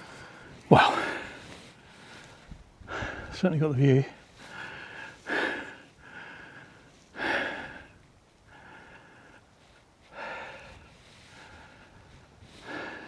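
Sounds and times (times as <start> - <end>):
person breathing hard: 0.0 - 3.4, 4.4 - 9.5, 10.1 - 13.0.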